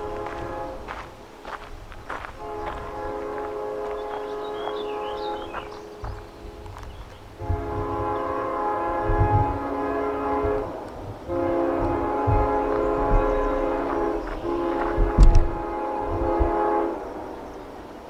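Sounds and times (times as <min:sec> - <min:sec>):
locomotive air horn chord: 0:00.0 - 0:01.1, 0:02.4 - 0:17.9
low rumbling: 0:00.0 - 0:17.7.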